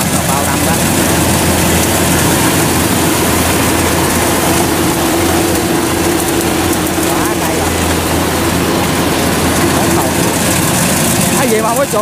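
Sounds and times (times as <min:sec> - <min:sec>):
combine harvester diesel drone: 0:00.0 - 0:12.0
machinery noise: 0:00.0 - 0:12.0.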